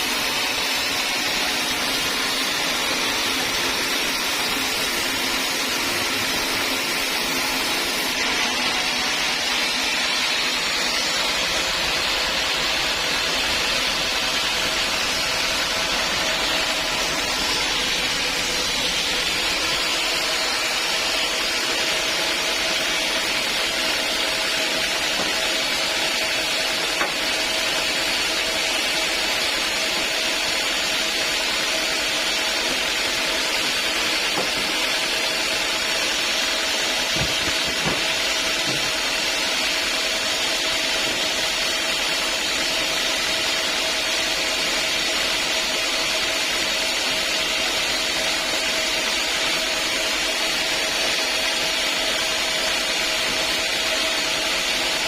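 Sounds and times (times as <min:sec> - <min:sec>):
sawmill saw hissing: 0:00.0 - 0:55.0.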